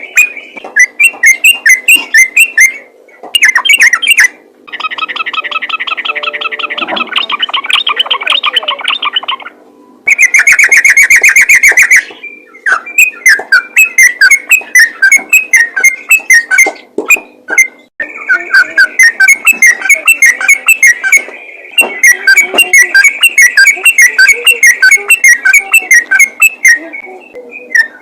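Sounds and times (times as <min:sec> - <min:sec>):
bird chattering whistled notes: 0:00.0 - 0:26.8.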